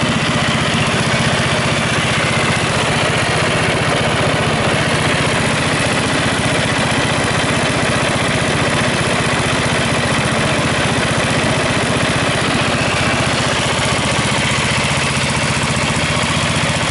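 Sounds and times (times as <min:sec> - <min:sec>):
ride-on mower engine running: 0:00.0 - 0:16.9.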